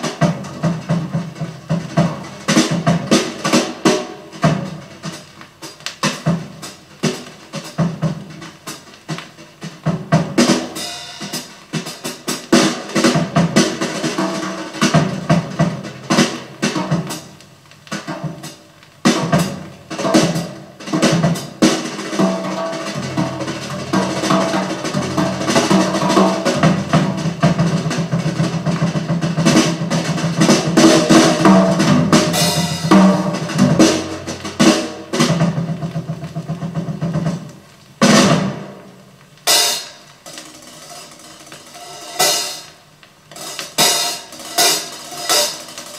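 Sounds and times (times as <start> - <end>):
drum hits and rolls: 0.0 - 45.9.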